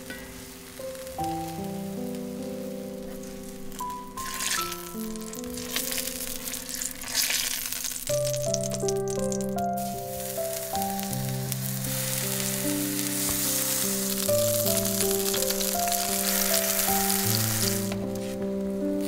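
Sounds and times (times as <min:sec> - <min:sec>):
eggplant sizzling in hot oil: 0:00.0 - 0:18.4
background music: 0:00.0 - 0:19.0.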